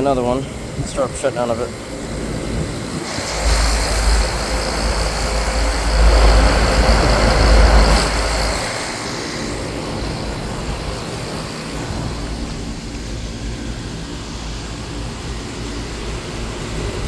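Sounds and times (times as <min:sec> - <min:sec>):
air conditioner units running: 0:00.0 - 0:17.0
heavy deep rumble: 0:00.0 - 0:17.0.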